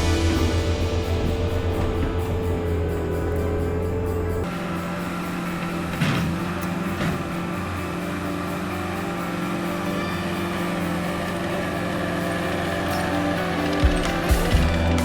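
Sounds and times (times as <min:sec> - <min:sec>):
background music: 0:00.0 - 0:15.0
diesel engine running: 0:00.0 - 0:15.0.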